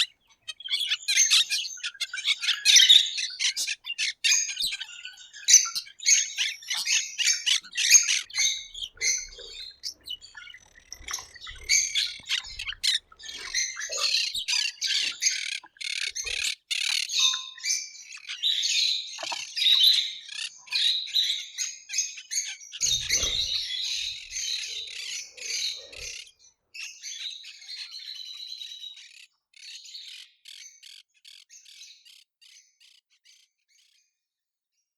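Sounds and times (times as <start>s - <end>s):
many birds chirping and squawking: 0.0s - 34.1s.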